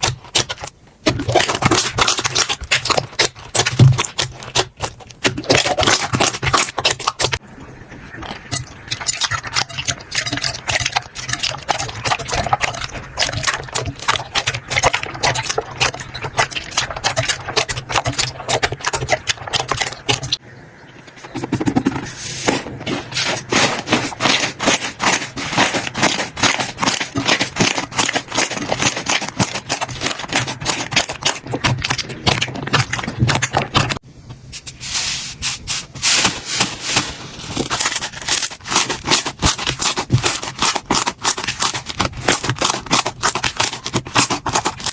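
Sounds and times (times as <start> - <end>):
slime clicking and crackling: 0.0 - 7.4, 8.1 - 20.4, 23.2 - 34.0, 36.1 - 44.9.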